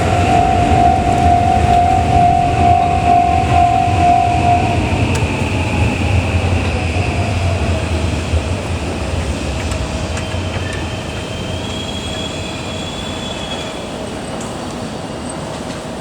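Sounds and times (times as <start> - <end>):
high wheel squeal: 0.0 - 14.4
train rumbling on rails: 0.0 - 16.0.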